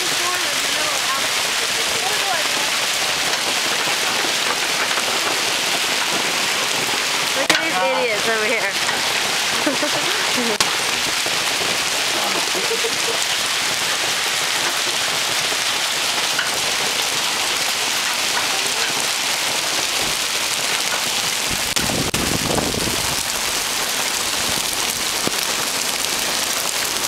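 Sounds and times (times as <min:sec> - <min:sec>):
hail and heavy rain: 0:00.0 - 0:27.0.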